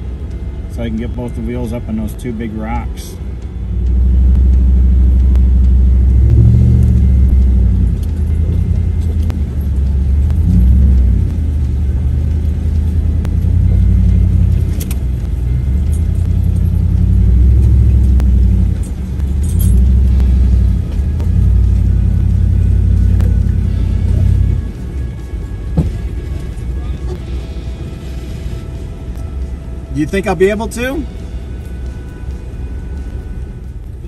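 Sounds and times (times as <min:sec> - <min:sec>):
vehicle engine under load: 0:00.0 - 0:34.0.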